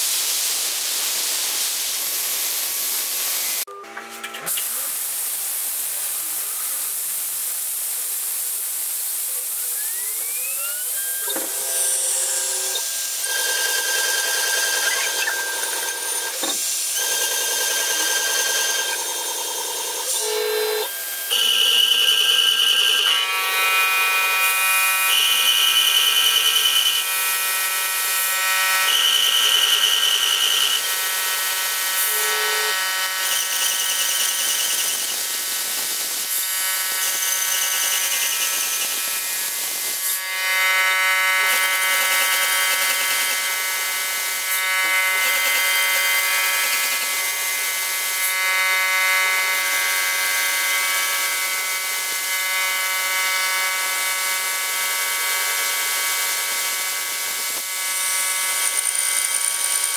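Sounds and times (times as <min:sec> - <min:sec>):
router spindle whining and screeching: 0:09.3 - 0:52.8, 0:54.5 - 0:59.9.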